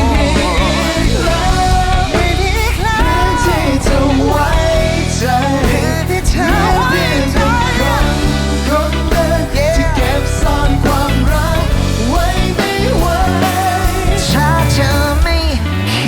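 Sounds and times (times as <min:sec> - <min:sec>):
pop-rock band playing: 0:00.0 - 0:16.0.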